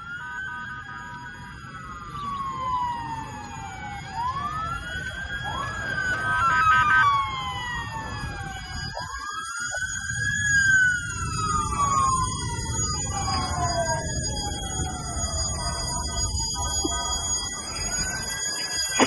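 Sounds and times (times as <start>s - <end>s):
sirens wailing: 0.0s - 19.0s.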